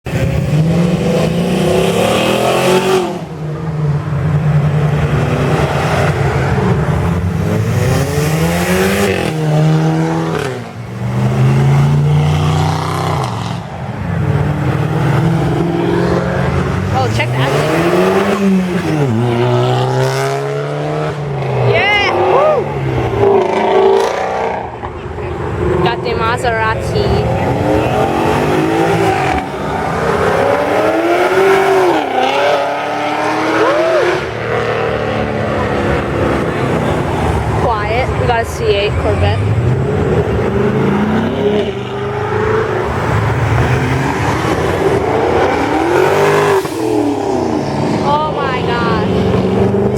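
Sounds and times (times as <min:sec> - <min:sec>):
muscle car engine revving: 0:00.1 - 0:49.9.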